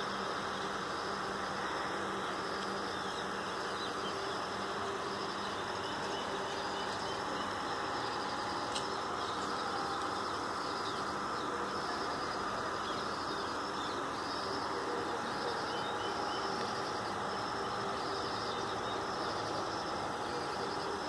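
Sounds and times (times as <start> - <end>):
birds chirping: 0.0 - 21.0
steady background hum: 0.0 - 21.0.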